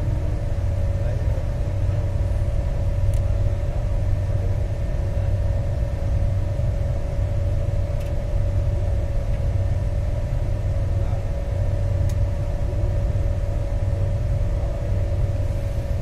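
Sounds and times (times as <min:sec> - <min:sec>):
steady hum: 0:00.0 - 0:16.0
train rumble from inside coach: 0:00.0 - 0:16.0.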